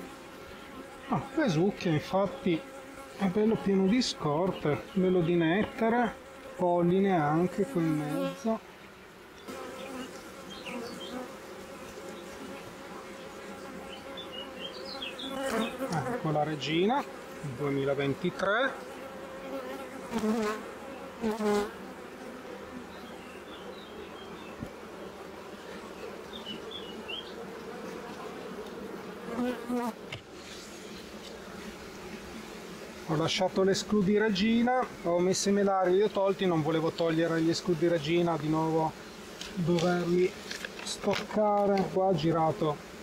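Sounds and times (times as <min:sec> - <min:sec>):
honeybees buzzing: 0:00.0 - 0:43.0.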